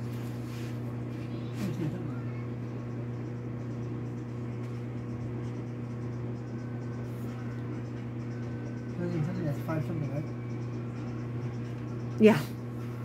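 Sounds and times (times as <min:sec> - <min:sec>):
machine humming low: 0:00.0 - 0:13.0.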